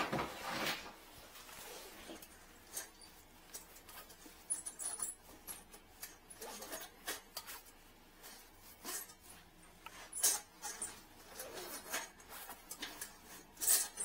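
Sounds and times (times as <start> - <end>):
handling clicks and rustles: 0.0 - 14.0.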